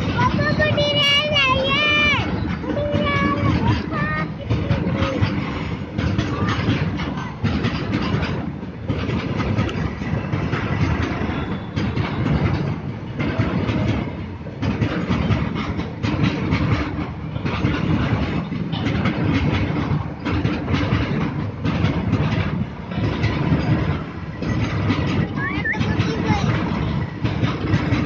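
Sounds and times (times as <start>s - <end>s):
steel wheels rumbling on rails: 0.0s - 28.0s
wheels clattering over rail joints: 0.0s - 28.0s.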